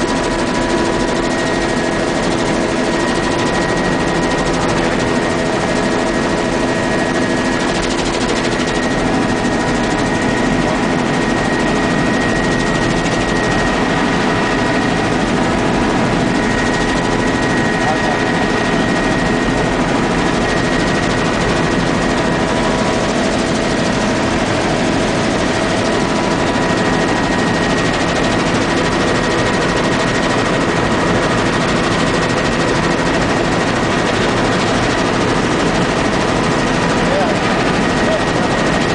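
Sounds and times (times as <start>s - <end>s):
helicopter rotor and engine noise: 0.0s - 38.9s.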